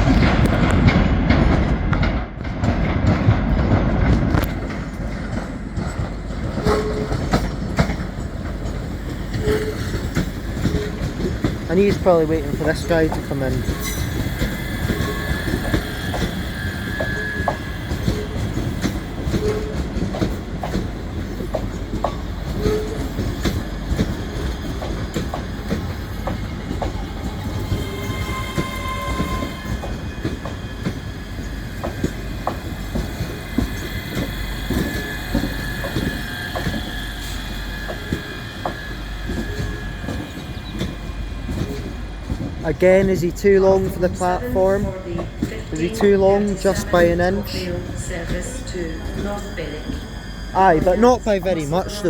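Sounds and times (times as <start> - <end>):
train low rumble: 0.0 - 52.0
train wheels clicking over rail joints: 0.0 - 52.0
wheels squealing: 5.9 - 20.3, 21.0 - 52.0.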